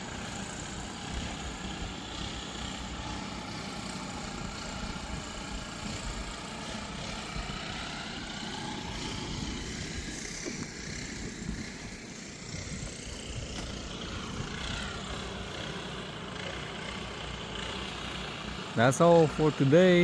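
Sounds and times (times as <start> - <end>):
distant leaf blowers droning: 0.0 - 20.0.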